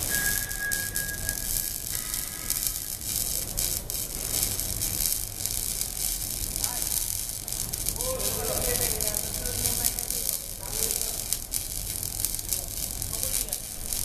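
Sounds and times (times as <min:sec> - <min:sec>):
arc welding crackling hiss: 0:00.0 - 0:14.0.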